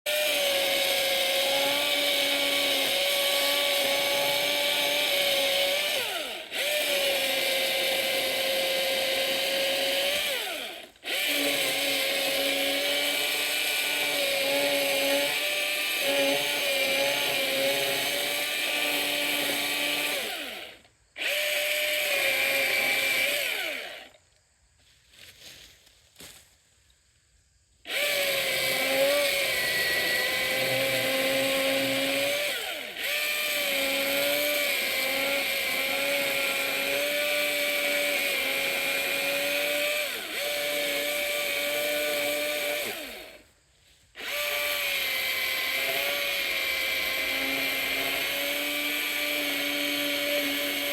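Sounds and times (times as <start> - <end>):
electric chainsaw cutting wood: 0.0 - 24.2, 27.9 - 43.5, 44.1 - 50.9.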